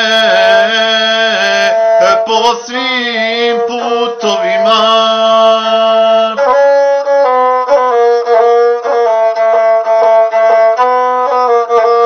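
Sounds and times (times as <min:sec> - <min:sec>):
bowed fiddle playing: 0:00.0 - 0:12.0.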